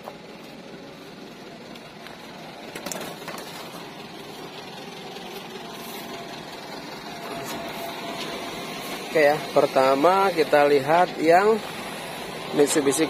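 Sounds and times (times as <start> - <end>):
truck engine idling with rattle: 0.0 - 13.0.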